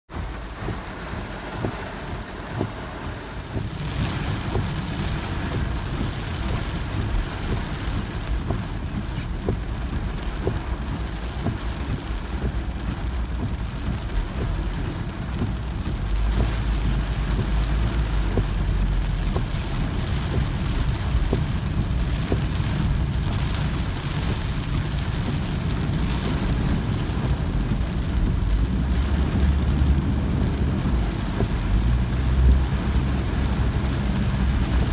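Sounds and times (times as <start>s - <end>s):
heavy rain falling: 0.1s - 34.9s
low rumble: 0.1s - 34.9s.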